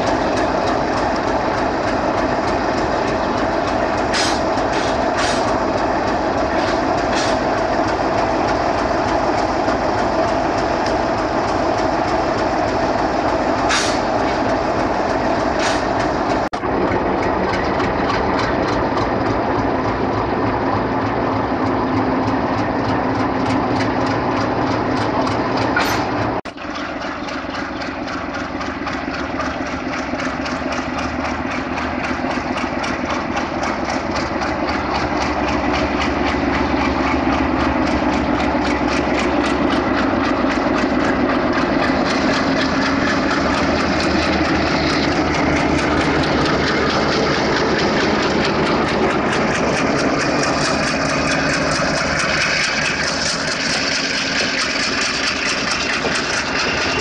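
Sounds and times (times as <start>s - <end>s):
diesel locomotive engine droning: 0.0s - 57.0s.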